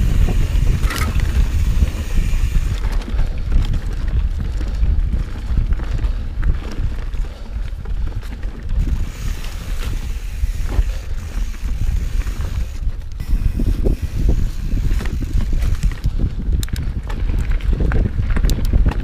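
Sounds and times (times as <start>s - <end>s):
bike clicks and rattles: 0.0s - 19.0s
bike tyres rumbling on dirt: 0.0s - 19.0s
wind buffeting microphone: 0.0s - 19.0s.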